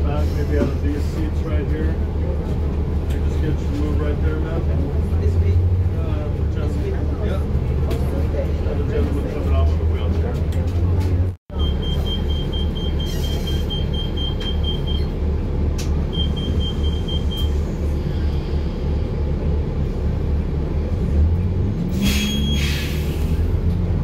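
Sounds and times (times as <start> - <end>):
bus engine idling: 0.0 - 24.0.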